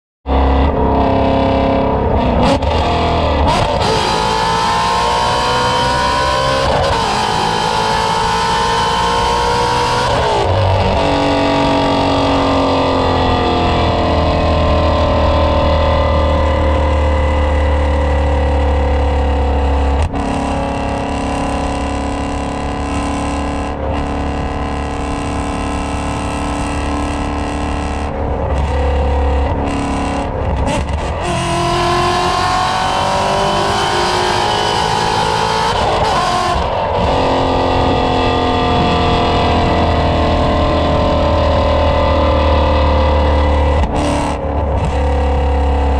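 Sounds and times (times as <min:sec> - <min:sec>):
car engine accelerating hard: 0:00.3 - 0:45.9.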